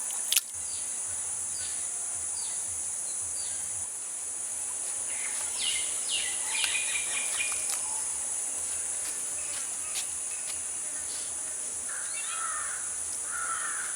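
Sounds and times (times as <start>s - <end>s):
high-pitched insect drone: 0.0s - 13.9s.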